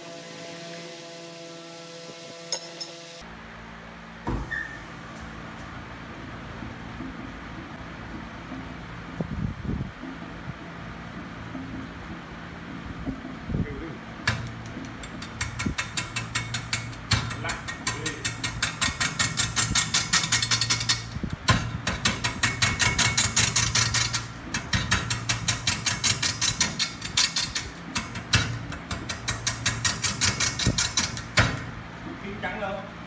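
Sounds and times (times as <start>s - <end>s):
low motor hum: 0.0s - 33.0s.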